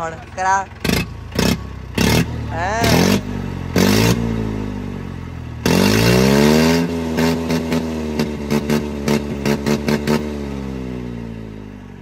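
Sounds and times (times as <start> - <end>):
tractor diesel engine revving: 0.0 - 11.5.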